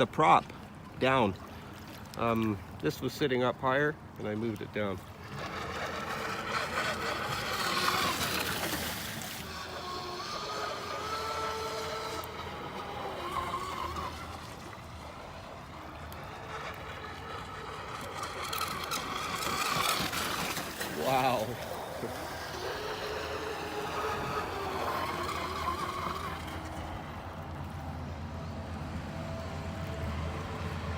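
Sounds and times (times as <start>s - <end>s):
electric motor whining: 5.1s - 30.9s.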